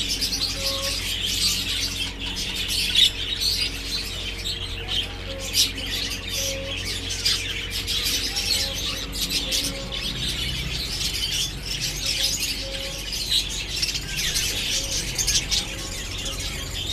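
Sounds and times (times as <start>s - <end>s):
low steady hum: 0.0s - 16.9s
small birds chirping: 0.0s - 16.9s.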